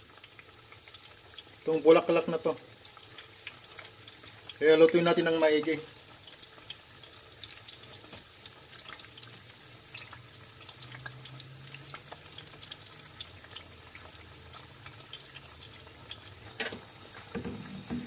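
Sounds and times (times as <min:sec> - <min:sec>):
frying oil sizzling and popping: 0:00.0 - 0:18.0.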